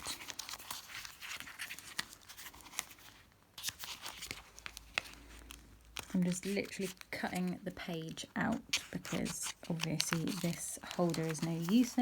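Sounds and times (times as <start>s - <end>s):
paper crinkling: 0.0s - 12.0s.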